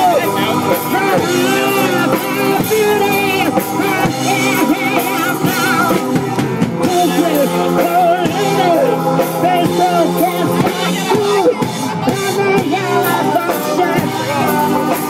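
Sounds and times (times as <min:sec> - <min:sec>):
drum kit: 0:00.0 - 0:15.0
live band playing: 0:00.0 - 0:15.0
person singing: 0:00.0 - 0:15.0.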